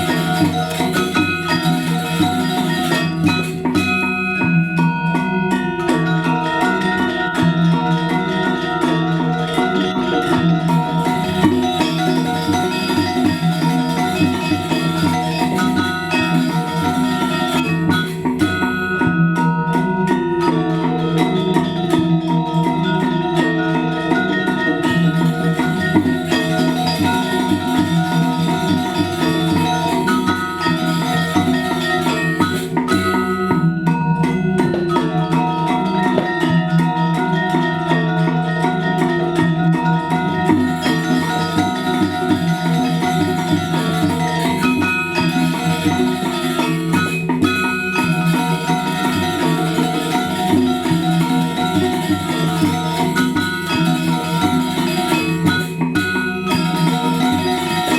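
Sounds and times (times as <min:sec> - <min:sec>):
gamelan metallophones playing: 0:00.0 - 0:57.9.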